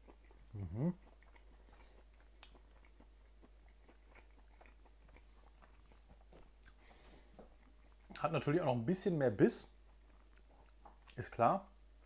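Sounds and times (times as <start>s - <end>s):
faint chewing of steak: 0.0s - 8.8s, 9.6s - 11.8s.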